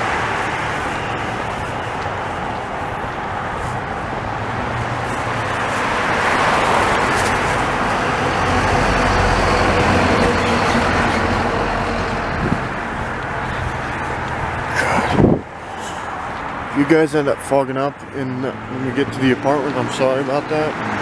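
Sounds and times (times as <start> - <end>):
motor vehicle passing: 0.0 - 17.0.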